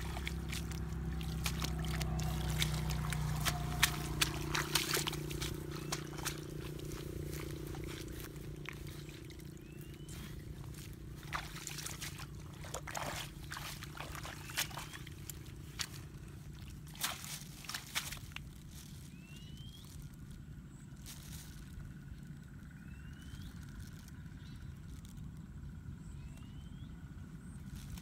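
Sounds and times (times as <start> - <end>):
feet splashing in water and mud: 0.0 - 24.3, 27.4 - 28.0
faint low hum: 0.0 - 28.0.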